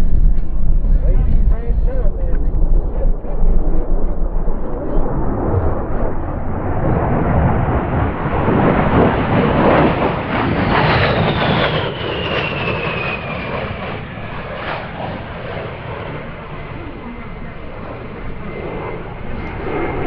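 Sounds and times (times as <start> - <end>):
high jet whine: 0.0 - 20.0
jet engines roaring: 0.0 - 20.0.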